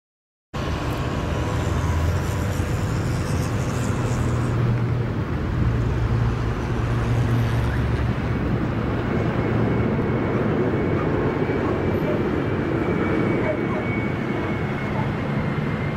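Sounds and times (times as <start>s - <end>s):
jet engines rumbling with whine: 0.6s - 15.9s.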